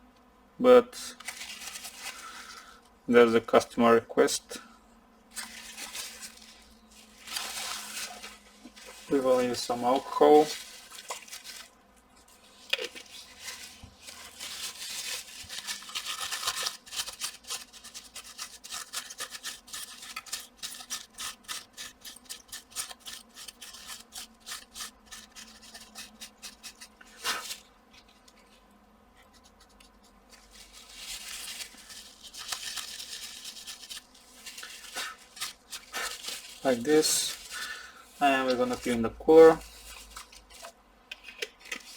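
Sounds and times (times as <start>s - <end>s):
rubbing strokes on chip: 5.3s - 28.5s, 29.2s - 40.7s.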